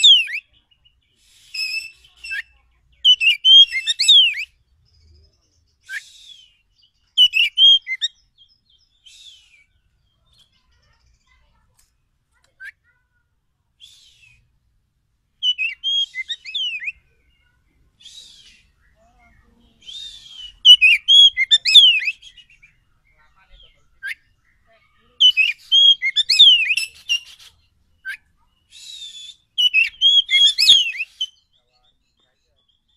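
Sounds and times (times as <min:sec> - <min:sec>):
bird song whistled notes: 0:00.0 - 0:10.5, 0:13.8 - 0:14.6, 0:15.4 - 0:32.9.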